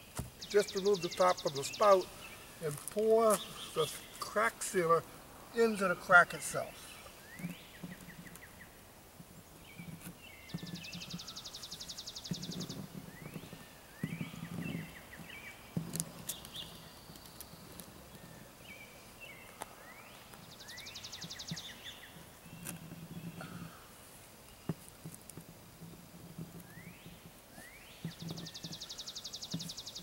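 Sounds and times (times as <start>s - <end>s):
songbird singing with trill: 0.0s - 23.8s, 26.4s - 30.0s.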